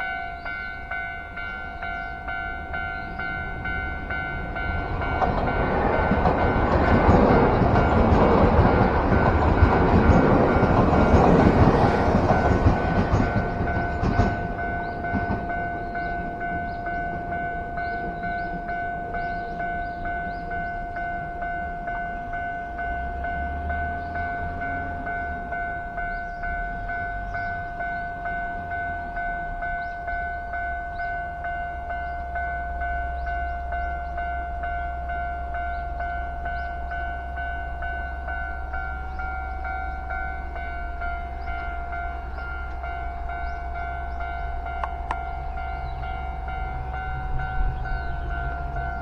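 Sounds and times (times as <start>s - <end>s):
level-crossing warning bell ringing: 0.0s - 49.0s
train rumble: 0.0s - 49.0s.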